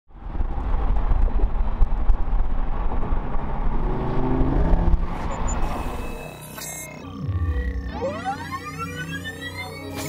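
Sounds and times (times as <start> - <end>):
car engines at full throttle: 0.1 - 9.2.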